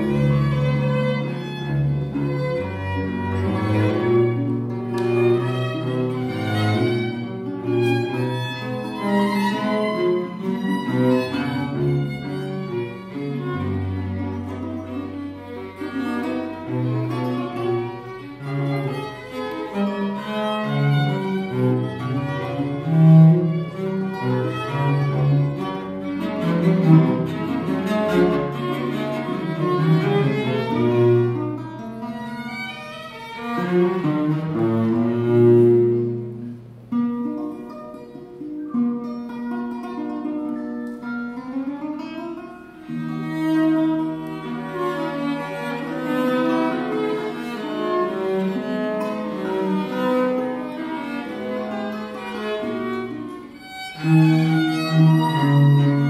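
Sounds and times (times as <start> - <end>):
cello: 0.0 - 56.0
guitar: 0.0 - 56.0
violin: 0.0 - 56.0.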